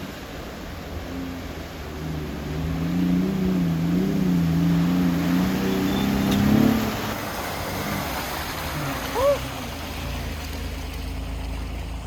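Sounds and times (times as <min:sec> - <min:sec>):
off-road vehicle engine revving: 0:00.1 - 0:12.0.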